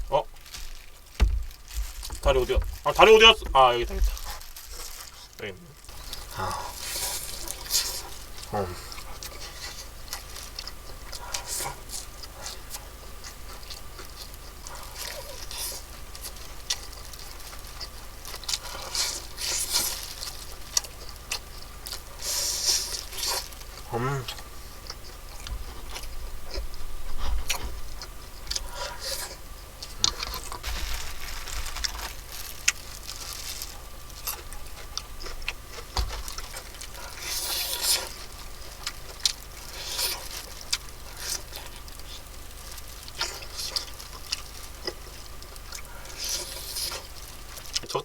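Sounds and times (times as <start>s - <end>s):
crunching and chewing fried chicken: 0.0s - 48.0s.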